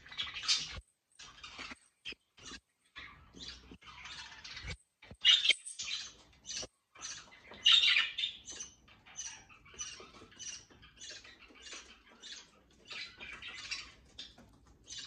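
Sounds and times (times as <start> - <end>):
budgerigars chirping and squawking: 0.0 - 15.0.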